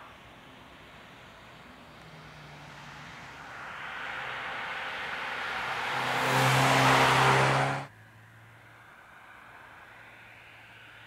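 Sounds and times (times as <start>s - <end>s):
car engine approaching: 0.0s - 11.0s.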